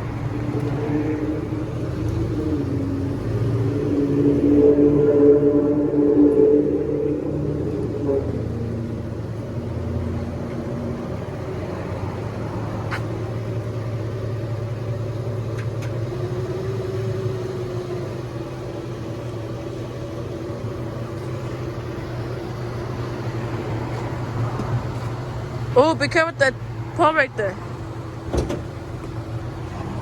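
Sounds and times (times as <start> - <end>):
vehicle engine idling: 0.0 - 30.0.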